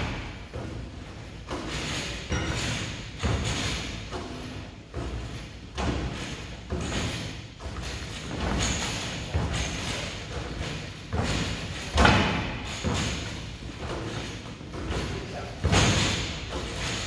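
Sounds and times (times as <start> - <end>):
basketballs thudding: 0.0 - 17.0.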